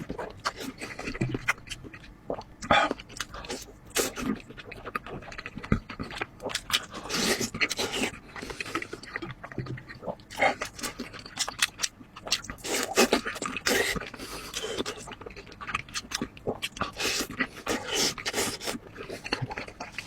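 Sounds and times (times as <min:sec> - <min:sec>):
wet chewing and mouth smacks: 0:00.0 - 0:20.0.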